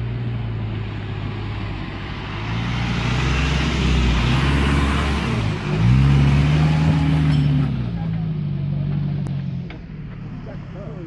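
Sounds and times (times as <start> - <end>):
tyres hissing on dirt road: 0.0 - 11.0.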